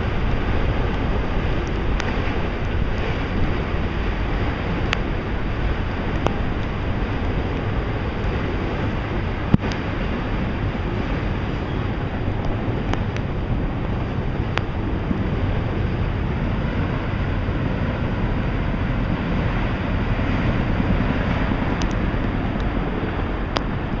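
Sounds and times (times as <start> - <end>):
freight cars rumbling on rails: 0.0 - 24.0
wind buffeting microphone: 0.0 - 24.0.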